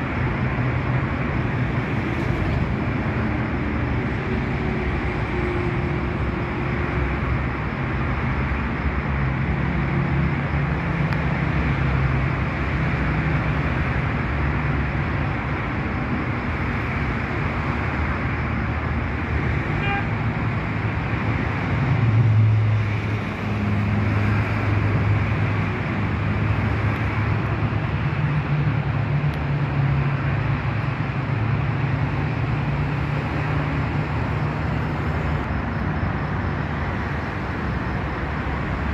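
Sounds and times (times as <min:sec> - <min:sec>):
road traffic noise: 0:00.0 - 0:38.9.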